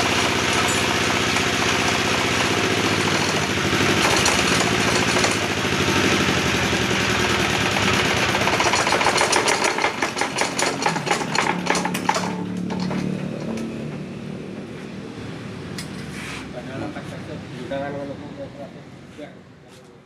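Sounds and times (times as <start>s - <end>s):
diesel engine running: 0.0s - 18.4s.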